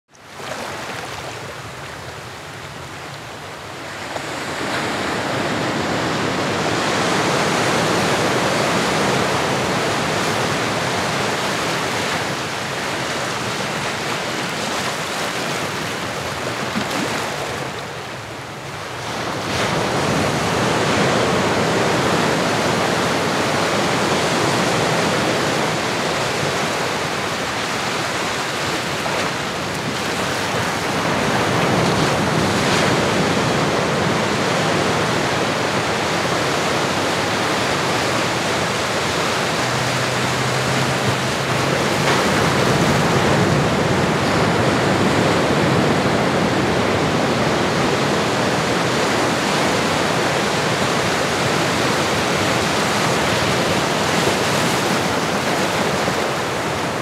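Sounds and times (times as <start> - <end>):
ocean waves washing in: 0.2 - 57.0.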